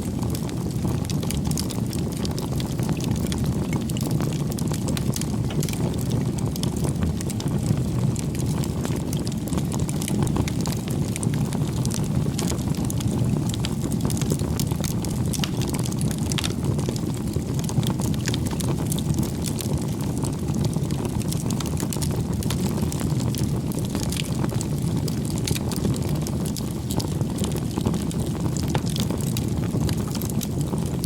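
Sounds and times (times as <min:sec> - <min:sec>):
bonfire flames rumbling: 0:00.0 - 0:31.0
burning wood crackling and popping: 0:00.0 - 0:31.0.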